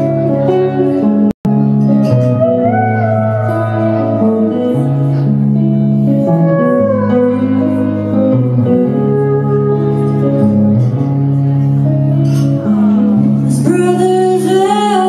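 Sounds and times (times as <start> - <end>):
electric guitar lead line: 0.0 - 15.0
keyboard chords: 0.0 - 15.0.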